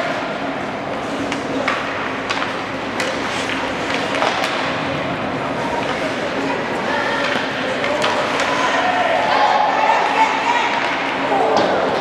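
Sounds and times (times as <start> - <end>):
voices echoing in large hall: 0.0 - 12.0.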